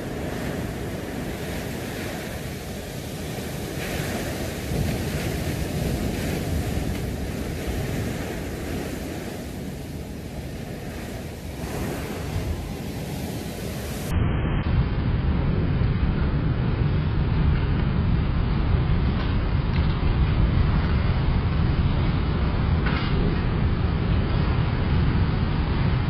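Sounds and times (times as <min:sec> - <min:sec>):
driving rain: 0:00.0 - 0:26.0
hurricane wind: 0:00.0 - 0:26.0
wind buffeting on microphone: 0:00.0 - 0:26.0.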